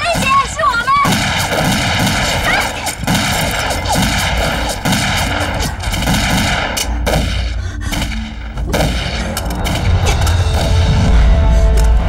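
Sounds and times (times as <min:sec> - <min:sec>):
rapid gunfire: 0:00.0 - 0:10.8.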